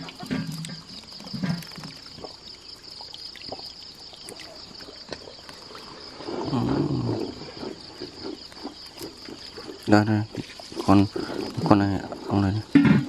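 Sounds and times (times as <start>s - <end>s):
water sloshing and trickling: 0.0s - 13.0s.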